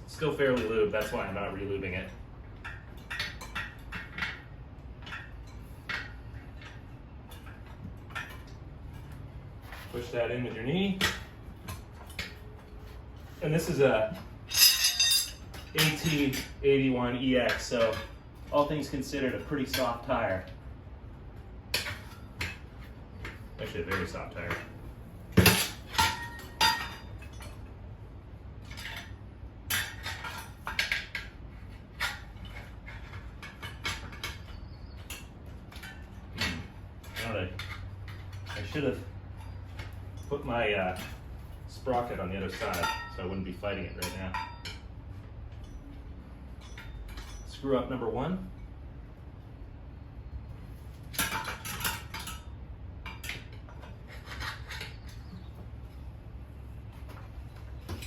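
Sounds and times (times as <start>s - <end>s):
tire irons clinking on metal rim: 0.0s - 49.0s, 49.9s - 58.0s.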